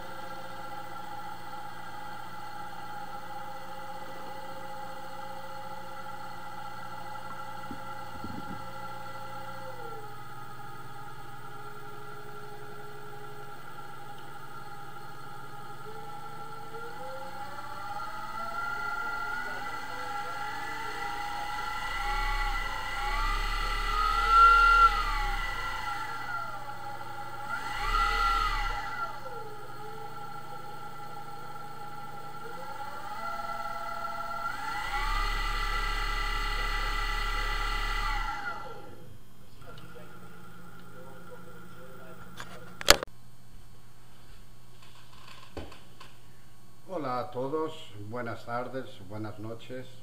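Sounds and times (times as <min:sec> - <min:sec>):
electric motor whine: 0:00.0 - 0:43.1
low hum: 0:00.0 - 0:49.3.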